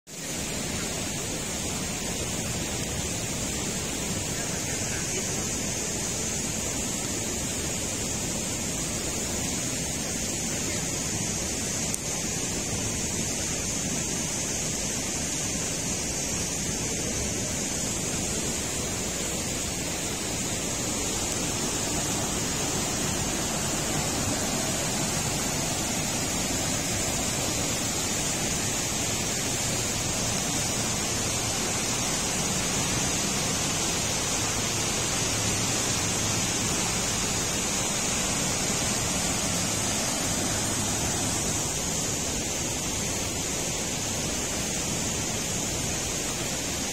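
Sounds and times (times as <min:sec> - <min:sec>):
river rushing through gorge: 0:00.1 - 0:46.9.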